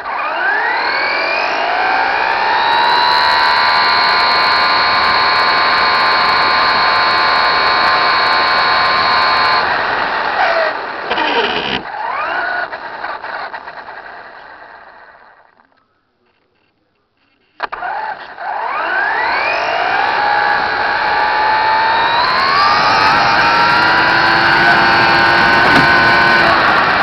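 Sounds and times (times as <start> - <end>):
toy truck electric motor whining: 0.0 - 15.5, 17.6 - 27.0.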